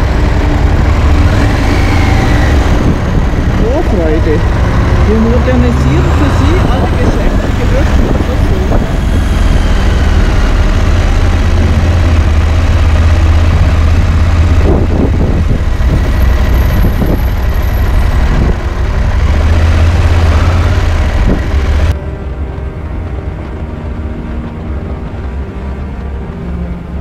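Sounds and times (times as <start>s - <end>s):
wind rush on microphone: 0.0s - 22.0s
motorcycle engine: 0.0s - 27.0s.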